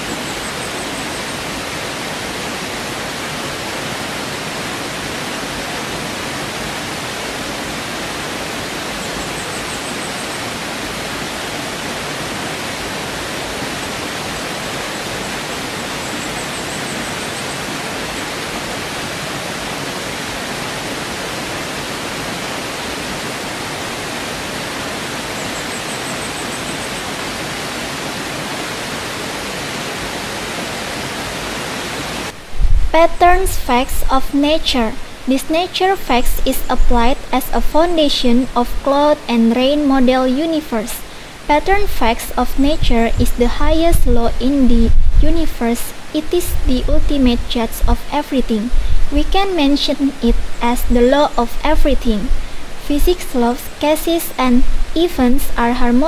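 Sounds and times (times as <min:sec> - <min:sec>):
stream rushing over stones: 0:00.0 - 0:48.1, 0:48.7 - 0:56.0.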